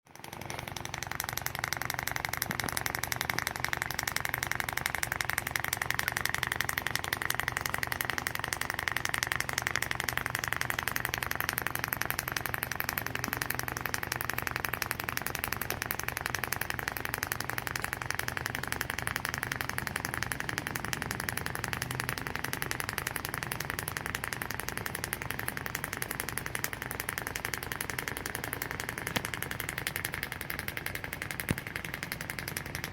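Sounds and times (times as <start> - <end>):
motor running with fast pulse: 0.1 - 32.9.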